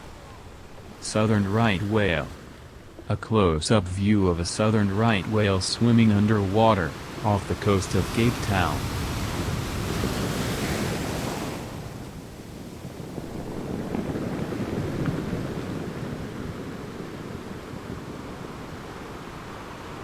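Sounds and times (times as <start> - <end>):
ocean water washing: 0.0 - 20.0.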